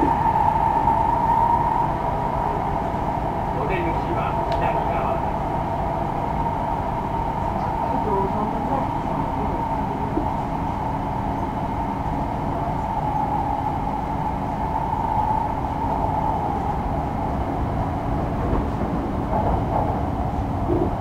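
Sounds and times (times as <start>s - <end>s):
steady high hum: 0.0s - 21.0s
train carriage rumble: 0.0s - 21.0s.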